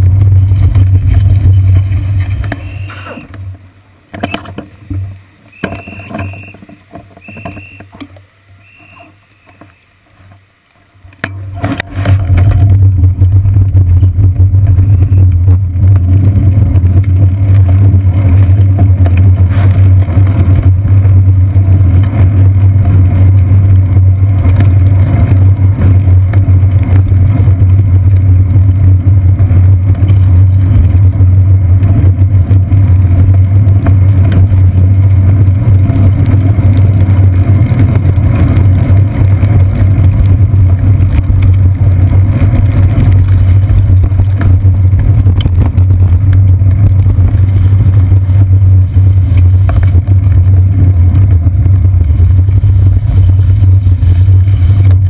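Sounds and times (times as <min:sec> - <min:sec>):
car and bus traffic: 0:00.0 - 0:55.0
road vibration rumble: 0:00.0 - 0:55.0.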